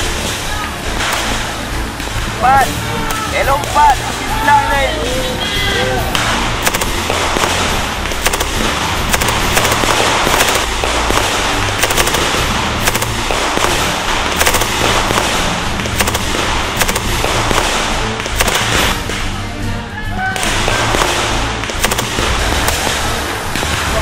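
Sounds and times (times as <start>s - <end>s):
rifle shots cracking: 0.0s - 19.3s, 20.4s - 24.0s.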